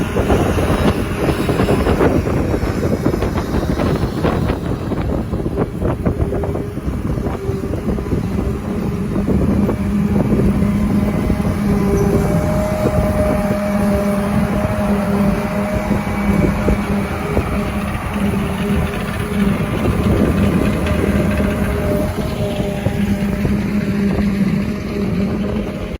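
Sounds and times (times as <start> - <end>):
engine humming: 0.0 - 25.9
heavy continuous rumble: 0.0 - 25.9.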